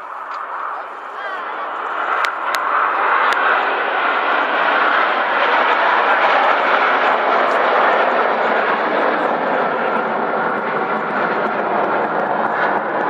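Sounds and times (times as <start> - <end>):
jets passing overhead: 0.0 - 13.0.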